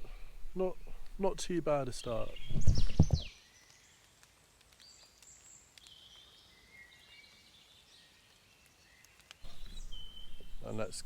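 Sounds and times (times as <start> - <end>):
faint distant birdsong: 0.0 - 4.2, 4.8 - 11.0.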